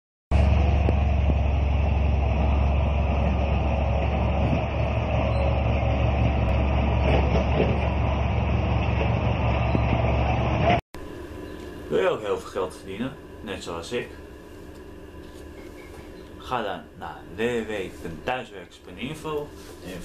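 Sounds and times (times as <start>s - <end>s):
bulldozer diesel engine droning: 0.3s - 17.7s.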